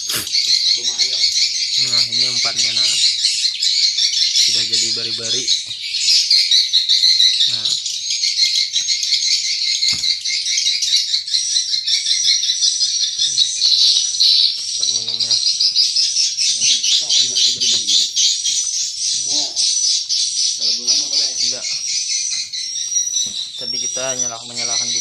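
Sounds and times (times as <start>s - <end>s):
swiftlets twittering: 0.0s - 25.0s.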